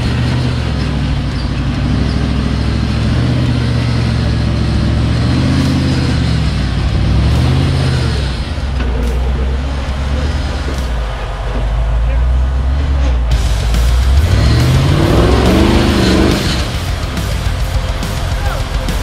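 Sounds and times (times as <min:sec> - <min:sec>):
engine revving under load: 0:00.0 - 0:19.0.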